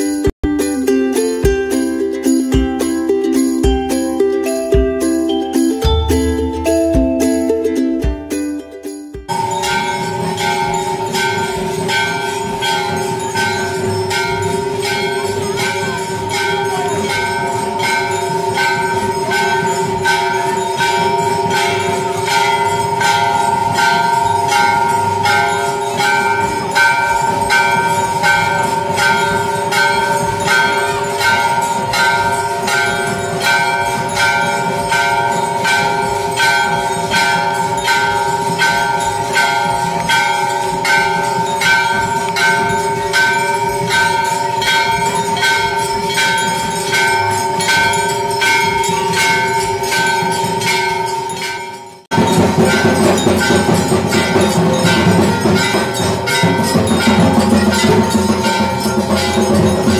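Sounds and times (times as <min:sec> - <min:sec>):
temple bell ringing: 0:00.0 - 0:08.1, 0:08.8 - 0:59.9.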